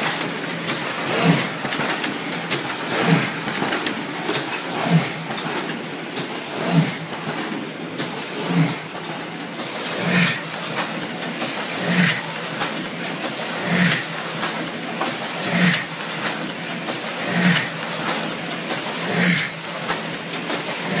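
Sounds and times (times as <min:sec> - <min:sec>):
printing press running: 0:00.0 - 0:21.0.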